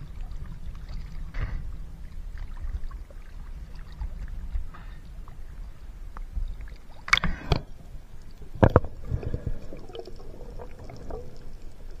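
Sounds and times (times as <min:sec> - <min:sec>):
muffled underwater sounds: 0:00.0 - 0:12.0.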